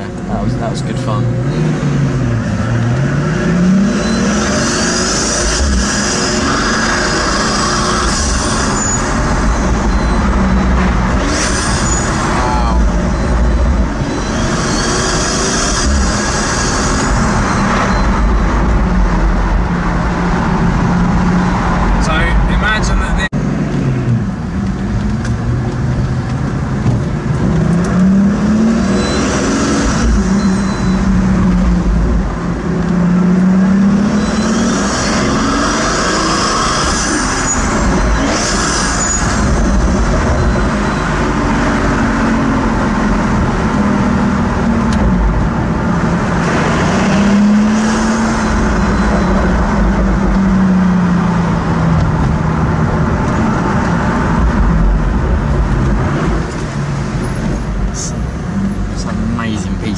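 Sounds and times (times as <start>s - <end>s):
car engine accelerating: 0.0s - 59.9s
road rumble: 0.0s - 59.9s.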